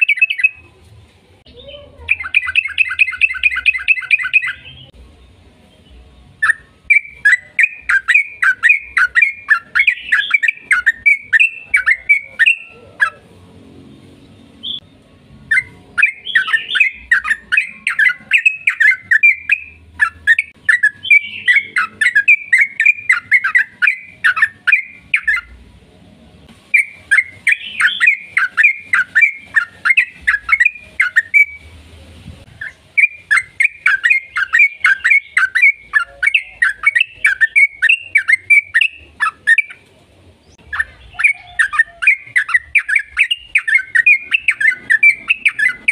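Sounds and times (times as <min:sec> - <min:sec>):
bird chattering song: 0:00.0 - 0:00.7, 0:01.5 - 0:05.0, 0:05.7 - 0:13.3, 0:14.2 - 0:25.6, 0:26.7 - 0:31.7, 0:32.5 - 0:45.9.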